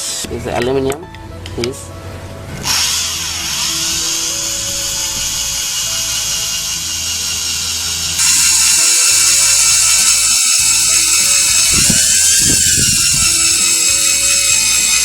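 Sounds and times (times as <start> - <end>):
drill drilling into metal: 2.7 - 15.0.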